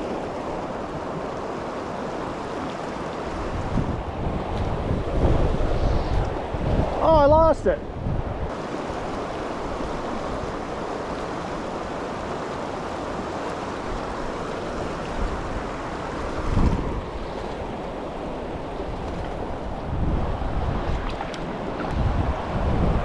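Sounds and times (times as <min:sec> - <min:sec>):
creek water flowing: 0:00.0 - 0:07.5, 0:08.3 - 0:23.0
wind buffeting microphone: 0:03.2 - 0:23.0.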